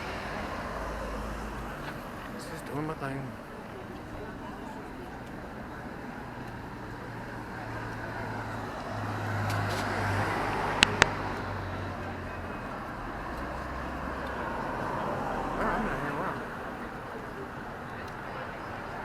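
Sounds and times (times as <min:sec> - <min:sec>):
car passing: 0:00.0 - 0:19.0.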